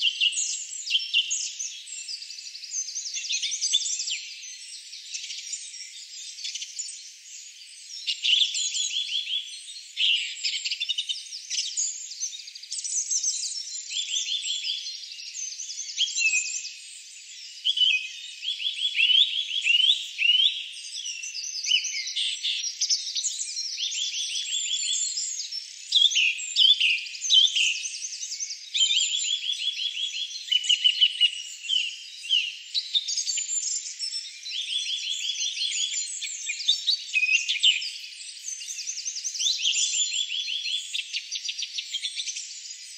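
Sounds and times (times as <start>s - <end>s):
songbirds singing and trilling: 0.0s - 42.9s.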